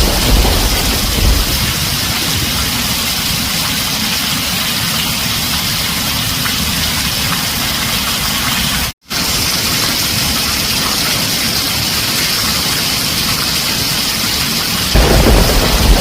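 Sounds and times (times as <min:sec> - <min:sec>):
heavy rain on a metal roof: 0:00.0 - 0:16.0.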